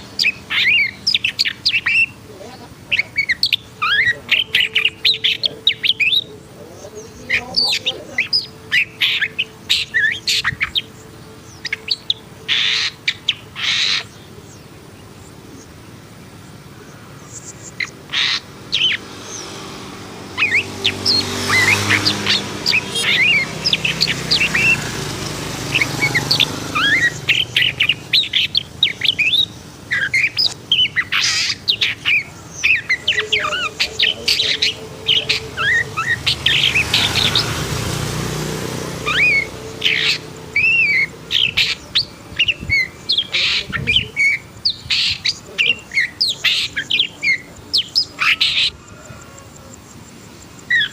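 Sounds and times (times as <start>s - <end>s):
bird singing chirps and whistles: 0.0s - 2.2s, 2.9s - 14.8s, 17.2s - 38.0s, 38.9s - 49.0s, 50.6s - 50.9s.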